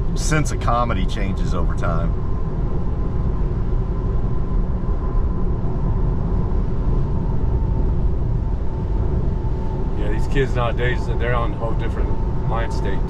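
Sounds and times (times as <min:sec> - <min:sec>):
faint steady whine: 0:00.0 - 0:13.0
road and tyre noise in car: 0:00.0 - 0:13.0.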